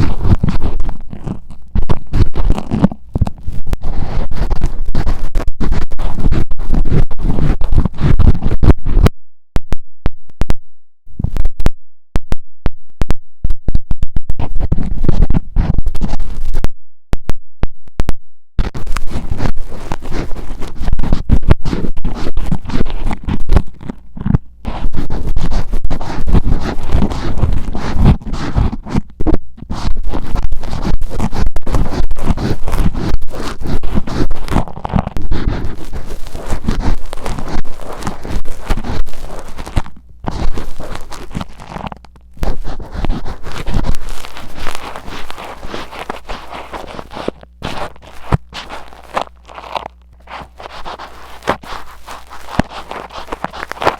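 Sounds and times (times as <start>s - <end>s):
metal ear pick scraping microphone: 0.0s - 9.1s, 14.3s - 16.7s, 18.6s - 53.9s.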